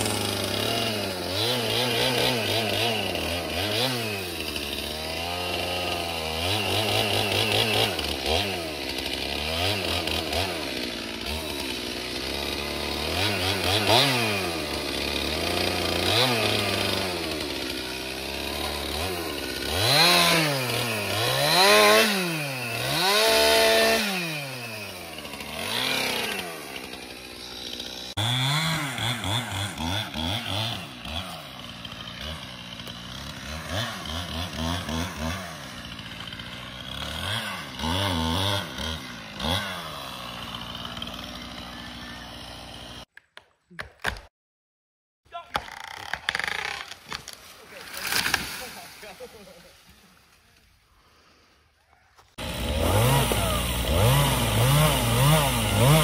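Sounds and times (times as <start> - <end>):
chainsaw revving: 0.0 - 43.1, 45.6 - 49.9, 52.3 - 56.0.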